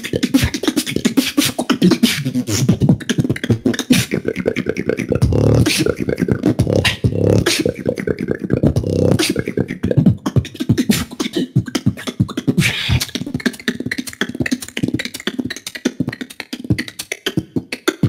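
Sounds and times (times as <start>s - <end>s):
beatboxing: 0.0s - 18.0s.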